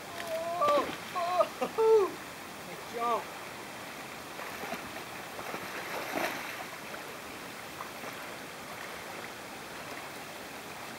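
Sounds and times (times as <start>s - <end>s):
shallow river running: 0.0s - 10.9s.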